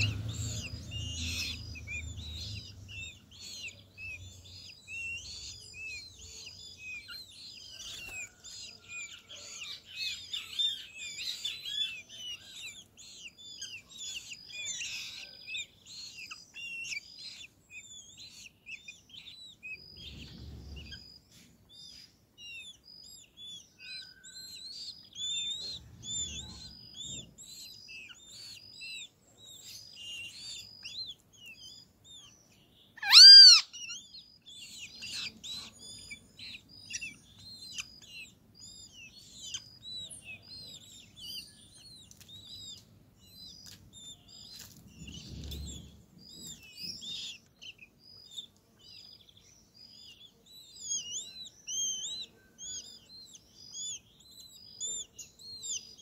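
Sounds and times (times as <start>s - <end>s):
birds chirping and twittering: 0.0s - 56.0s
loud harsh bird call: 0.0s - 56.0s.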